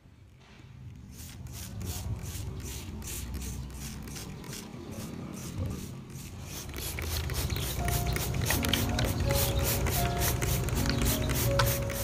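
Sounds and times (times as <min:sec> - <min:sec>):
spray bottle hissing sprays: 0:01.0 - 0:12.0.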